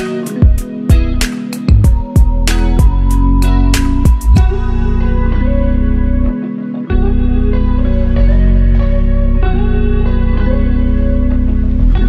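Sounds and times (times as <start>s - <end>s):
plucked string music over bass: 0.0s - 12.0s.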